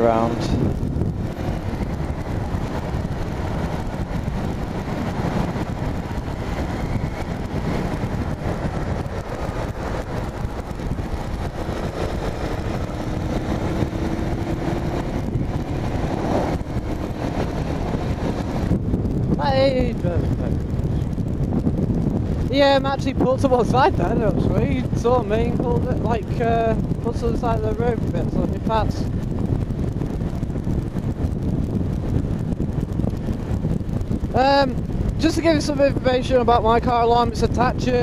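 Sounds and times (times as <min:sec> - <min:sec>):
motorcycle engine running: 0:00.0 - 0:38.0
wind and road noise: 0:00.0 - 0:38.0.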